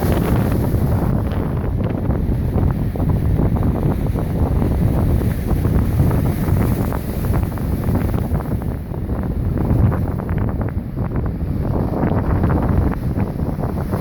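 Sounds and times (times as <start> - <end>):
waves crashing on shore: 0.0 - 14.0
wind buffeting microphone: 0.0 - 14.0.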